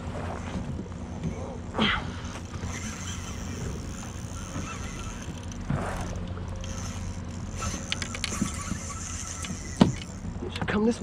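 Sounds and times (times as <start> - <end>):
water lapping against kayak hull: 0.0 - 10.4.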